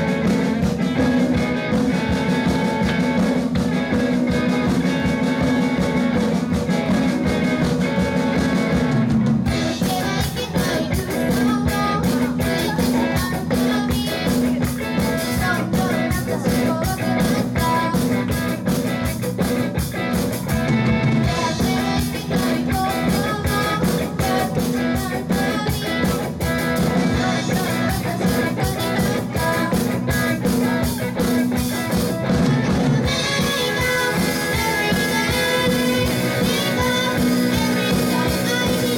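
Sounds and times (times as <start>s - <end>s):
drum kit with cymbals: 0.0s - 38.9s
electric guitar: 0.0s - 38.9s.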